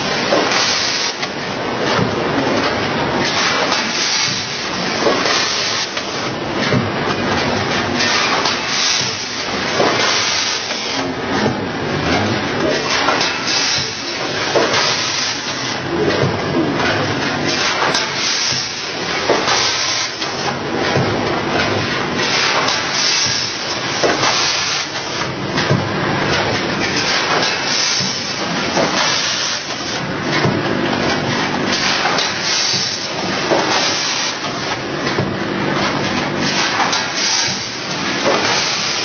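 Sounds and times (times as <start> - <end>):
packing machine clattering: 0.0 - 39.0.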